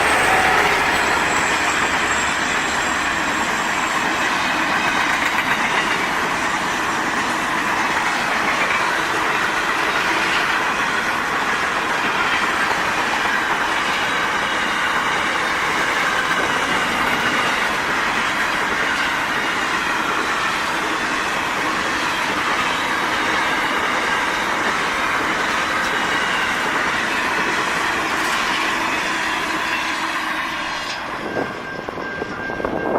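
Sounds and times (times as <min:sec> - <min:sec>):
train wagons rolling on rails: 0:00.0 - 0:32.9.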